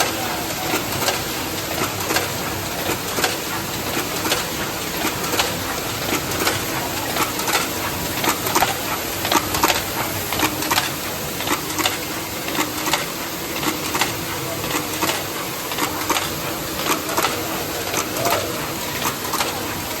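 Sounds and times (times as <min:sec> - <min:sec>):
sharp machine clacks: 0:00.0 - 0:20.0
welding machine mechanical hum: 0:00.0 - 0:20.0.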